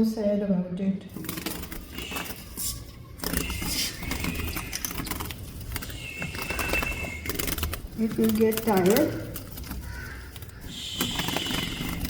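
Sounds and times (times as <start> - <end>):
hummingbird wings whirring: 1.2 - 12.0.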